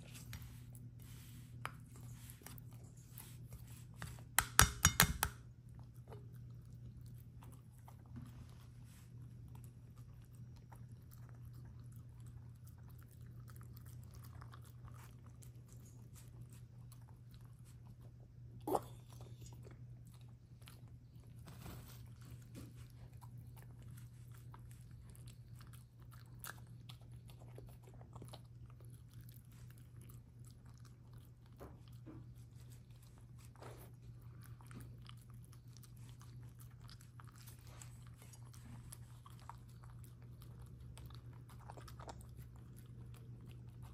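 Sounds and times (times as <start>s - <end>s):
pet chewing and crunching: 0.0s - 43.9s.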